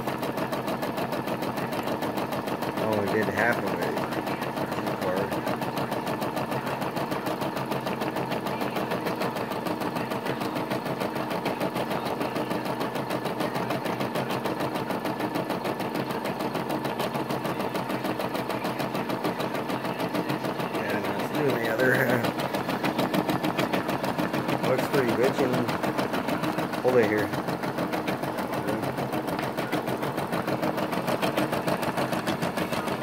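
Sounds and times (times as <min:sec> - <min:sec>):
embroidery machine stitching: 0:00.0 - 0:33.0.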